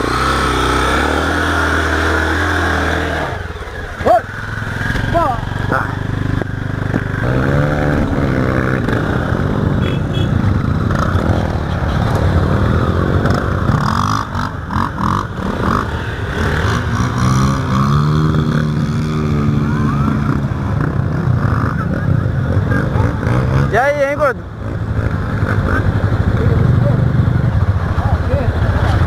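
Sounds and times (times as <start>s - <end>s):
motorcycle engine revving: 0.0s - 29.0s
wind: 0.0s - 29.0s.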